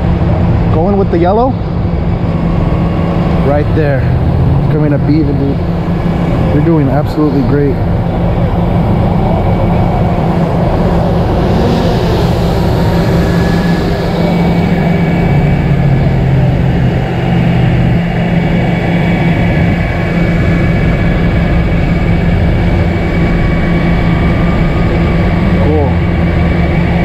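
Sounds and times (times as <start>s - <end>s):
diesel truck engine under load: 0.0s - 27.0s.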